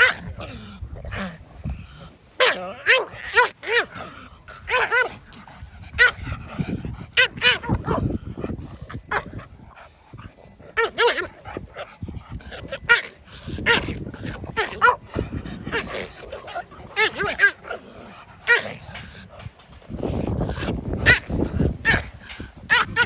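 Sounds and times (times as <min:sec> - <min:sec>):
dogs barking and yelping: 0:00.0 - 0:23.0.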